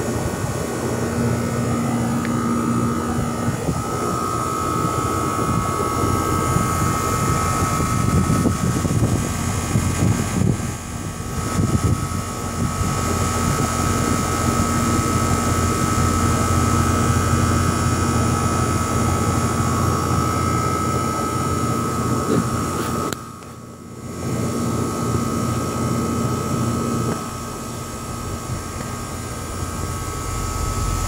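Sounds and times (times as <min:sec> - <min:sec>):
air conditioner fan whir and hum: 0:00.0 - 0:31.0
high whine: 0:00.0 - 0:31.0.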